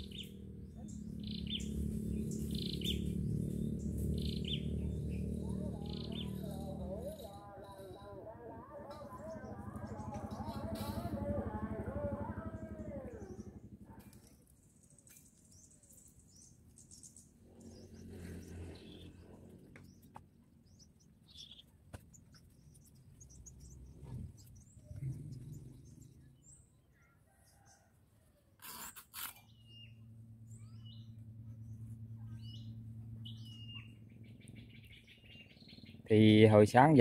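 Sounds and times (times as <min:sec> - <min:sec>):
small birds chirping: 0:00.0 - 0:27.9, 0:28.6 - 0:37.0.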